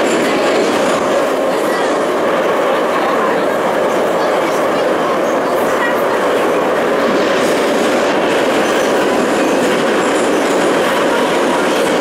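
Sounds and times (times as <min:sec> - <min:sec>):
metro train wheels rumbling: 0:00.0 - 0:12.0.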